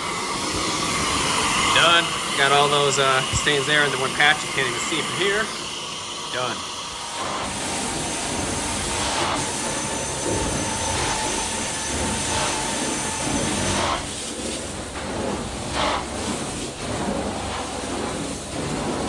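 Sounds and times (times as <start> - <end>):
carpet cleaner vacuum suction: 0.0 - 19.0.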